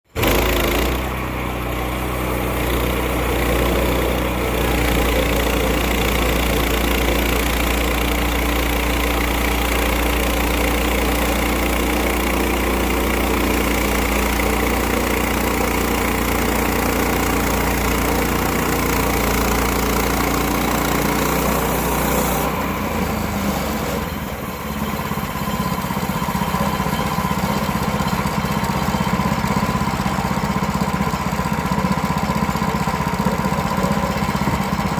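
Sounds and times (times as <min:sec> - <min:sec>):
band sawmill engine running: 0:00.1 - 0:34.9.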